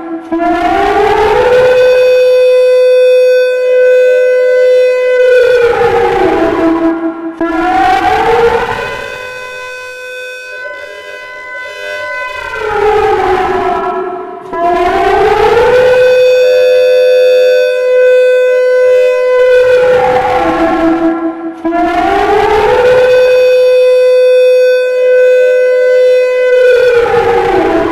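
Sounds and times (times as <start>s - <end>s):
civil defence siren wailing: 0.0s - 27.9s.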